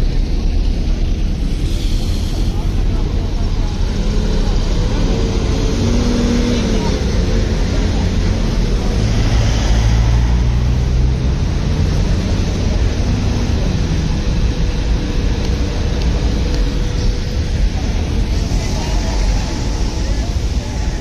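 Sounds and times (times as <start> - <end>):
low engine note: 0.0 - 21.0
road vehicle rumble: 0.0 - 21.0.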